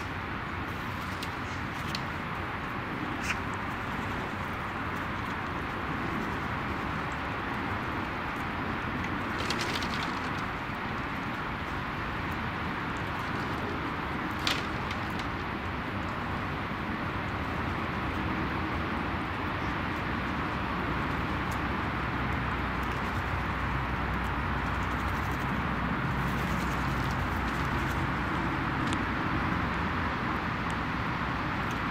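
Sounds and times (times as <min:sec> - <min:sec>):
outdoor hiss and rumble: 0:00.0 - 0:31.9.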